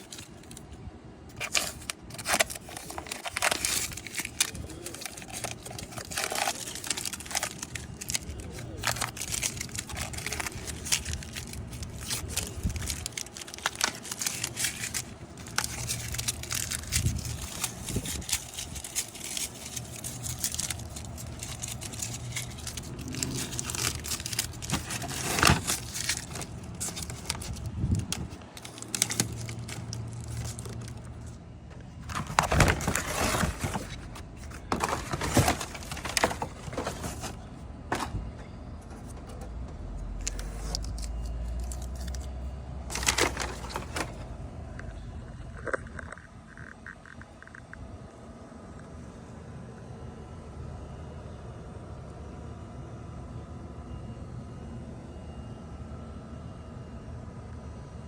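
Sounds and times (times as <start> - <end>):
rustling and crinkling handling noise: 0.0 - 47.7.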